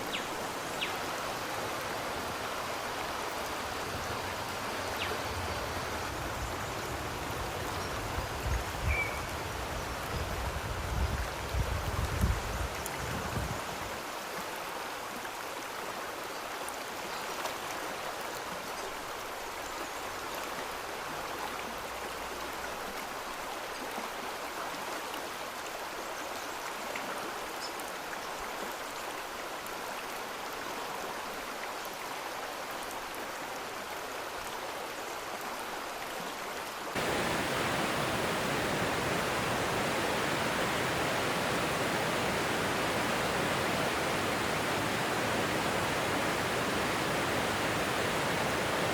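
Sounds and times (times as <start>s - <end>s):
flowing stream rushing: 0.0s - 25.9s, 28.6s - 48.9s.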